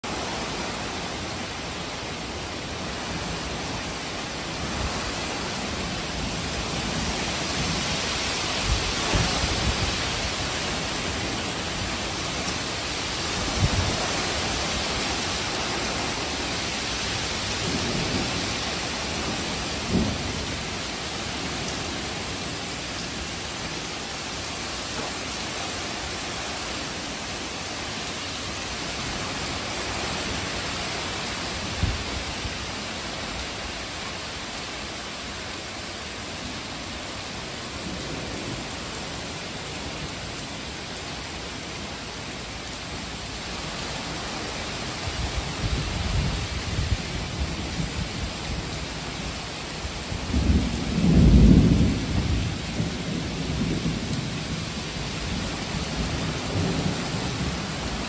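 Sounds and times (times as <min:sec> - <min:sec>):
heavy rain on truck: 0:00.0 - 0:58.0.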